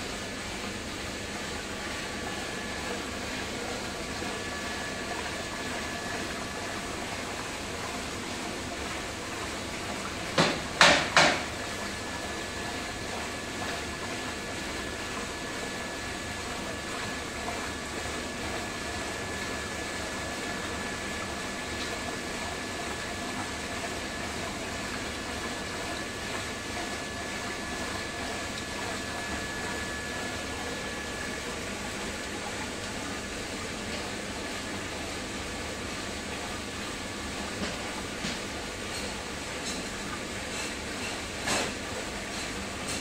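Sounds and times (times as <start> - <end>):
water pouring and churning: 0.0 - 43.0.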